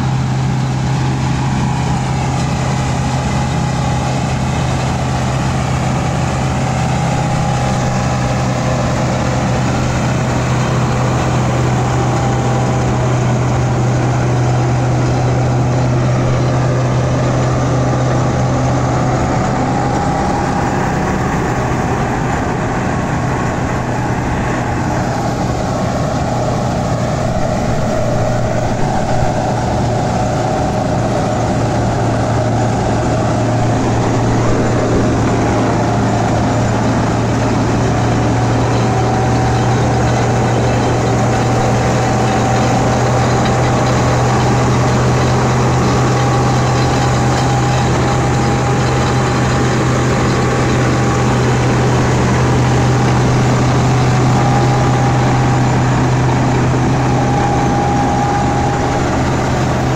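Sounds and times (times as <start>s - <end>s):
straw chopper belts and blower whine: 0.0s - 59.9s
tractor diesel engine droning: 0.0s - 59.9s.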